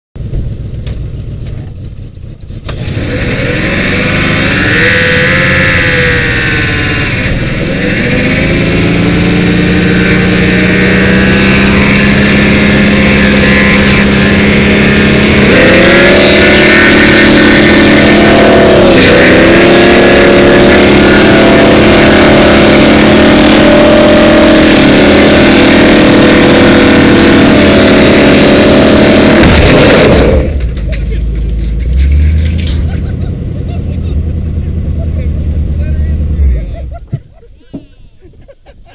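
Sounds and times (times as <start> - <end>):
car engine at high revs: 0.2 - 38.0
tire spinning on the ground: 0.2 - 38.9.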